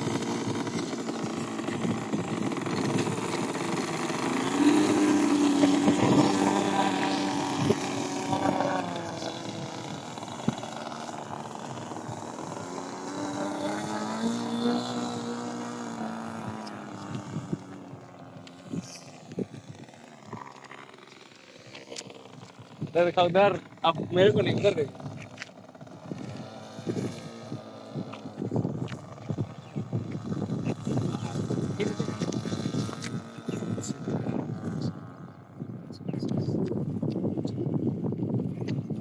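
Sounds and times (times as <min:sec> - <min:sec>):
model airplane engine running: 0:00.0 - 0:39.0.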